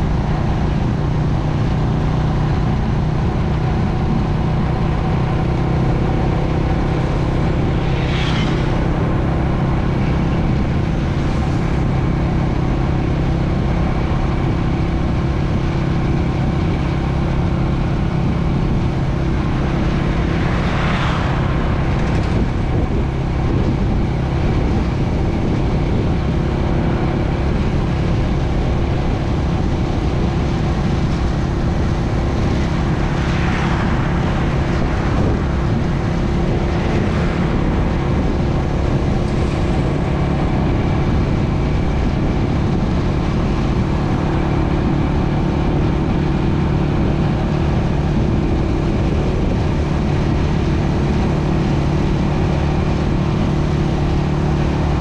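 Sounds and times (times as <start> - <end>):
road and wind noise: 0.0 - 55.0
traffic passing: 0.0 - 55.0.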